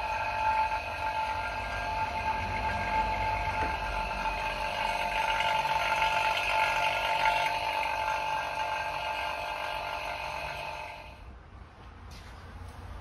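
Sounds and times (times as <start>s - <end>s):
compressor whining hum: 0.0s - 11.4s.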